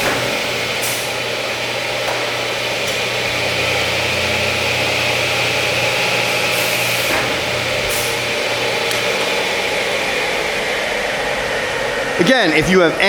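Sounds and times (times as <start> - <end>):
hissing bursts: 0.0 - 10.9
miter saw motor hum and whine: 0.0 - 13.0.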